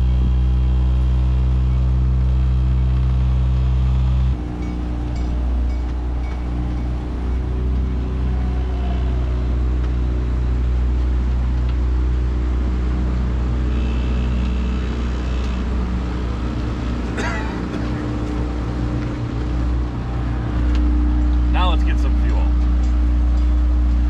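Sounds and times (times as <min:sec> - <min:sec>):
boat motor running steadily: 0:00.0 - 0:24.0.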